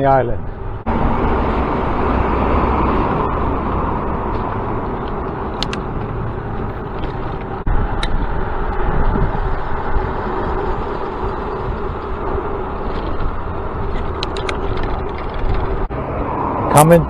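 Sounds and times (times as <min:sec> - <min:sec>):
road and tyre rumble: 0:00.0 - 0:17.0
wind on microphone: 0:00.0 - 0:17.0.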